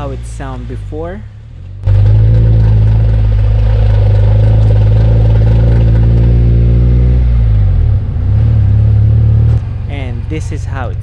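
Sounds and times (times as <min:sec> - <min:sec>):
differential grinding drone: 0:01.8 - 0:11.0.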